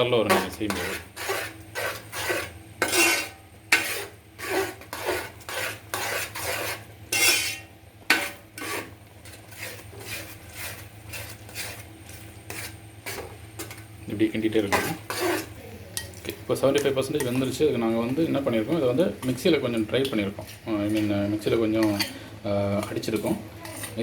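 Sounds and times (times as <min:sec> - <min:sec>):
spoon scraping cooking pot: 0:00.2 - 0:13.9, 0:14.6 - 0:21.2, 0:21.8 - 0:22.2.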